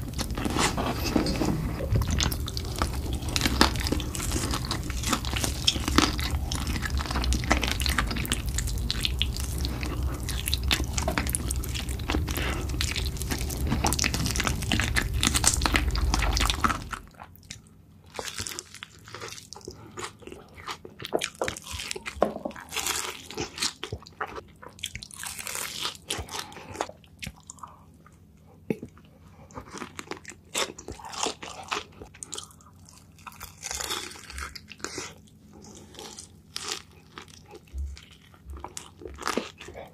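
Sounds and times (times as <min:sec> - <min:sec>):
crunching fried chicken: 0:00.0 - 0:28.9, 0:29.5 - 0:39.9
chewing: 0:00.0 - 0:39.9.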